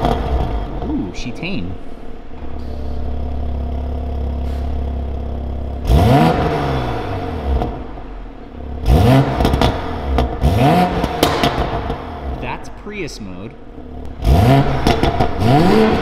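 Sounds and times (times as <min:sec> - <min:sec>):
car engine idling and revving: 0:00.0 - 0:16.0
exhaust crackling: 0:00.0 - 0:16.0.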